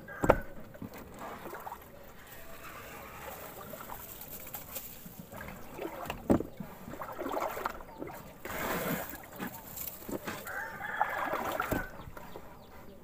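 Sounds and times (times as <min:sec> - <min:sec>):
water sloshing from wading: 0:00.0 - 0:13.0.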